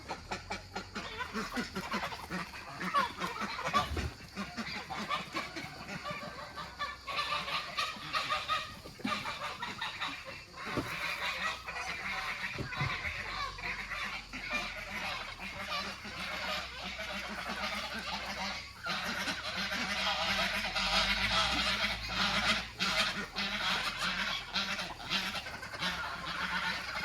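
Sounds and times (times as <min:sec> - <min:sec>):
fowl honking and chattering: 0:00.0 - 0:27.0.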